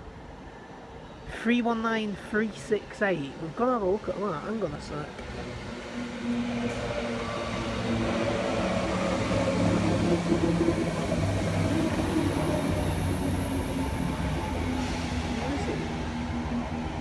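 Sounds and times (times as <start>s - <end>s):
electric train humming: 3.3s - 17.0s.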